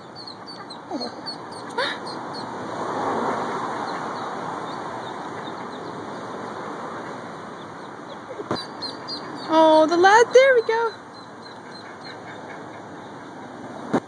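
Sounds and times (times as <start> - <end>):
ducklings peeping: 0.0 - 2.6, 3.8 - 13.9
street traffic: 0.0 - 14.0
vehicle passing: 0.0 - 14.0.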